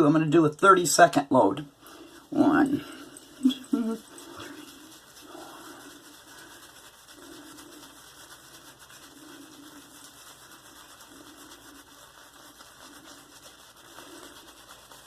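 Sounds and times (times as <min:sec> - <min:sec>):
shaving brush swirling on soap: 0:00.8 - 0:15.0.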